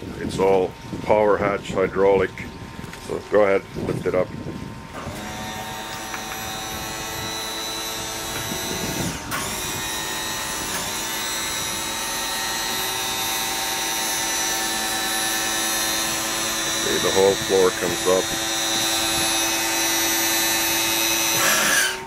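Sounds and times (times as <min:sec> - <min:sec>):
hydraulic pump motor whining: 0:03.8 - 0:22.0.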